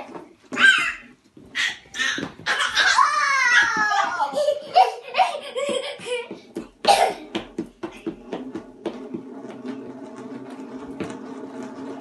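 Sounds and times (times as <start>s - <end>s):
hula hoop whirring hum: 0.0s - 12.0s.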